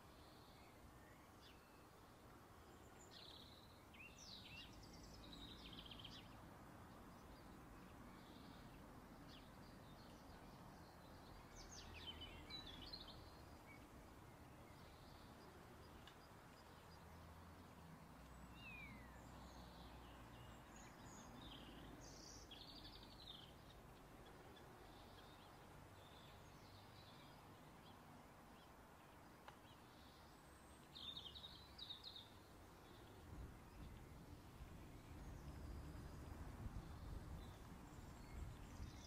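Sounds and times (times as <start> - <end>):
background hiss: 0.0 - 39.0.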